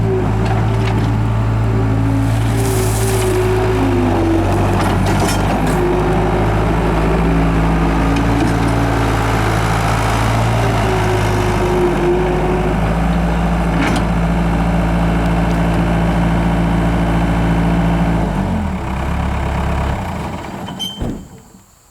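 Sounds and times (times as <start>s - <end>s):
diesel engine running: 0.0s - 20.8s.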